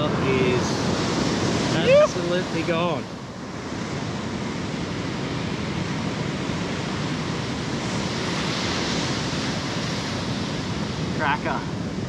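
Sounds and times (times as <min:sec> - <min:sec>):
ocean surf breaking on beach: 0:00.0 - 0:12.0
wind rumble on microphone: 0:00.0 - 0:12.0.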